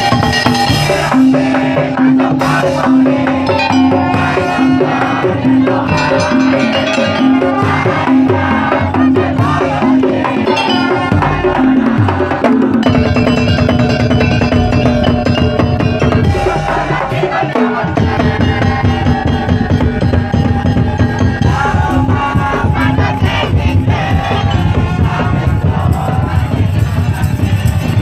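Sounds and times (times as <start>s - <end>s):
driving percussion: 0.0s - 28.0s.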